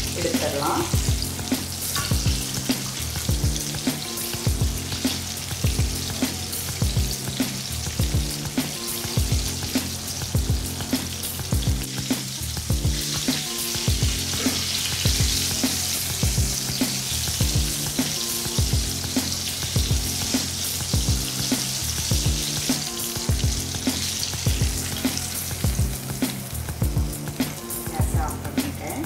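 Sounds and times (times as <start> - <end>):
background music with beat: 0.0 - 29.0
chicken sizzling in hot oil: 0.0 - 29.0.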